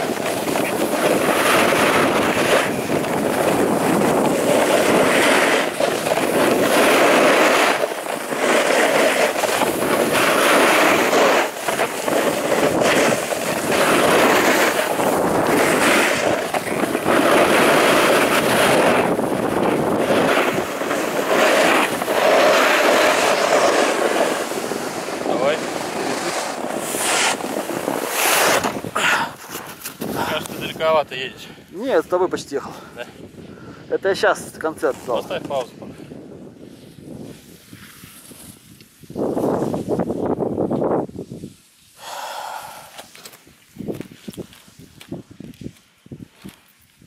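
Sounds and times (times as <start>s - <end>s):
skis scraping on snow: 0.0s - 32.4s, 34.2s - 47.0s
wind on microphone: 0.0s - 47.0s.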